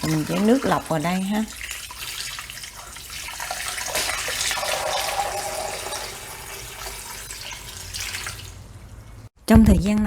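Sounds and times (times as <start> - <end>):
water pouring into a pot: 0.0 - 9.3.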